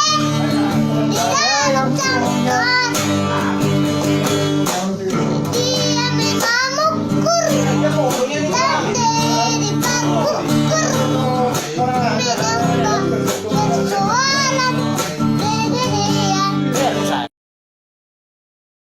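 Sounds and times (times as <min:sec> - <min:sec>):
backing music: 0:00.0 - 0:17.3
child singing: 0:00.0 - 0:17.3.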